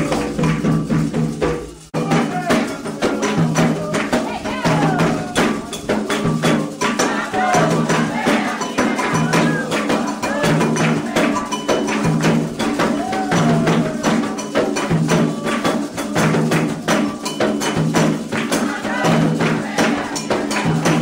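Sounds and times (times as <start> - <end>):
agogo bell: 0.0 - 21.0
hand drums: 0.0 - 21.0
voices singing: 2.0 - 21.0.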